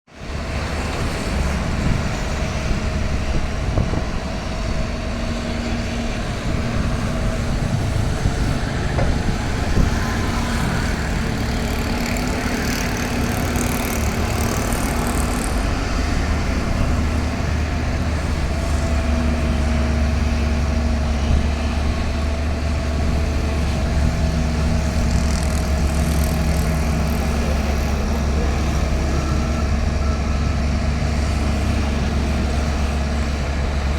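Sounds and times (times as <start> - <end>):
diesel engine rumbling: 0.1 - 33.9.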